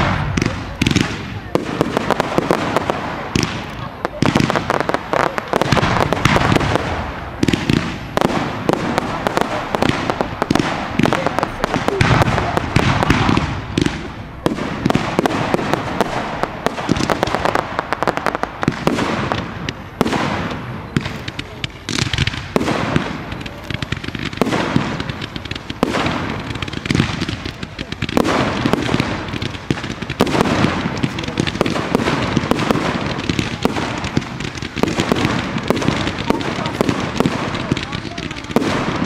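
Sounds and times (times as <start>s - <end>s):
fireworks bangs and crackling: 0.0s - 39.0s
heavy fireworks bangs: 0.0s - 39.0s.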